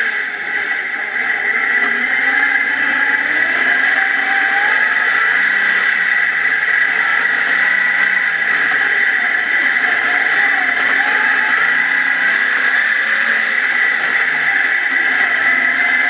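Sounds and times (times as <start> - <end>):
buggy engine running: 0.0 - 16.0
road noise: 0.0 - 16.0.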